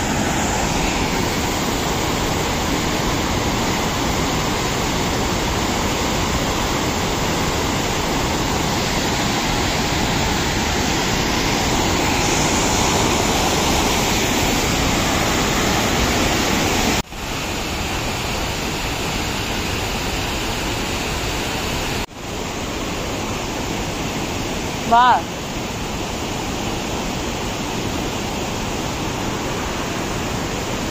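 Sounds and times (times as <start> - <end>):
white-water rapids rushing over rocks: 0.0 - 30.9.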